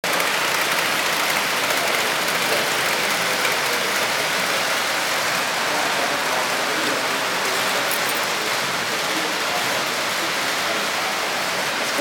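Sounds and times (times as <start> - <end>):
model railway motor and wheels: 0.0 - 12.0.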